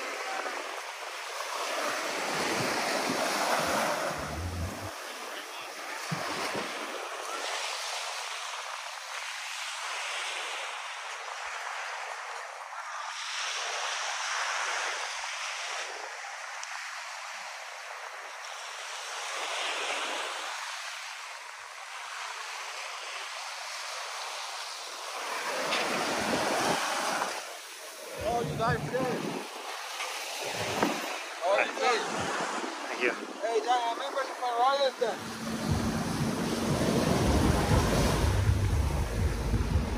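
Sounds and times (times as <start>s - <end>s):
waves washing on sandy beach: 0.0s - 39.9s.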